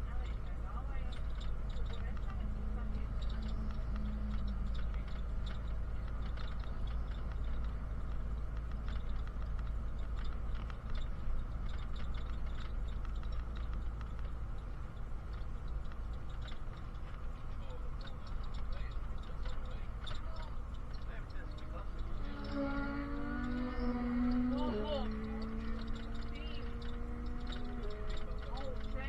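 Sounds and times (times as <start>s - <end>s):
rattles and clicks of bus fittings: 0.0s - 22.6s, 23.5s - 29.0s
bus engine and road rumble: 0.0s - 29.0s.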